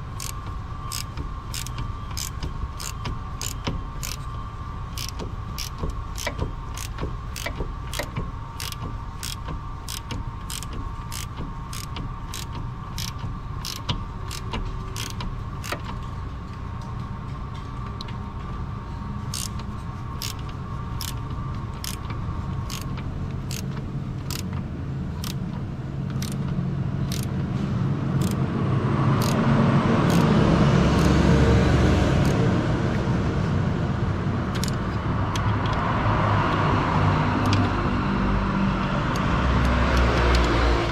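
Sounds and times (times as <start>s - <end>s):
regular mechanical clicking: 0.0s - 18.6s, 19.2s - 27.5s, 28.2s - 28.4s, 29.1s - 30.4s, 31.0s - 31.2s, 32.2s - 33.0s, 34.5s - 38.0s, 38.8s - 40.9s.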